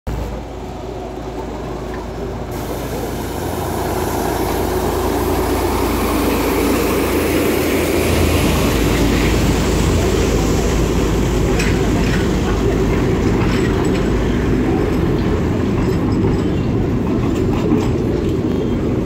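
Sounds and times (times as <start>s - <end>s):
diesel locomotive engine drone: 0.1s - 19.0s
train coaches rolling by: 0.1s - 19.0s.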